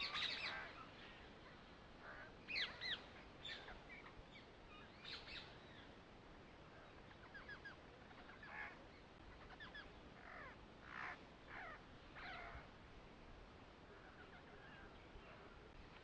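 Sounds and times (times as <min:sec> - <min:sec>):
faint bird calls: 0:00.0 - 0:12.8, 0:13.6 - 0:16.0.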